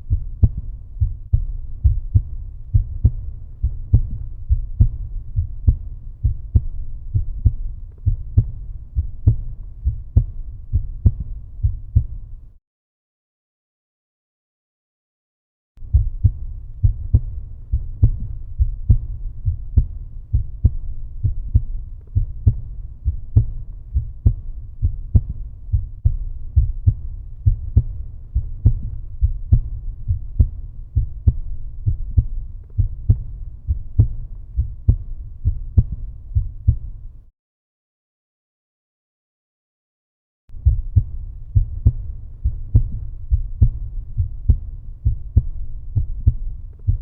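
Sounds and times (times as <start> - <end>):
heartbeat thumps: 0.0 - 12.5, 15.8 - 37.2, 40.5 - 47.0.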